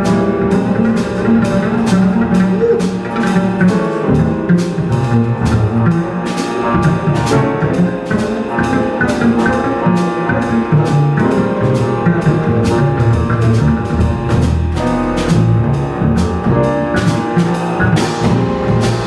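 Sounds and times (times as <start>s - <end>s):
drum kit with cymbals: 0.0s - 19.0s
grand piano: 0.0s - 19.0s
plucked double bass: 0.0s - 19.0s.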